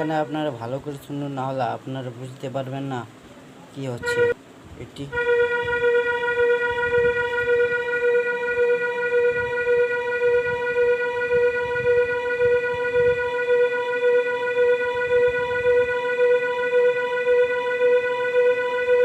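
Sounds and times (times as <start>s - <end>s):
keyboard sustained string note: 0.0s - 1.4s, 5.1s - 19.0s.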